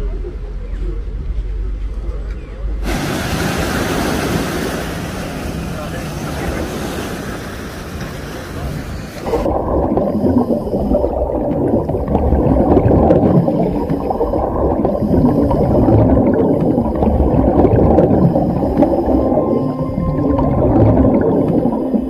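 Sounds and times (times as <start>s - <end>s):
muffled underwater rumble: 0.0s - 22.0s
faint bubbling hiss: 2.8s - 22.0s.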